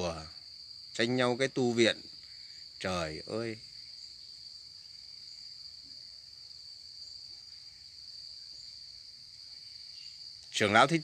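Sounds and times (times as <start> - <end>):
faint insects droning: 0.0 - 11.0.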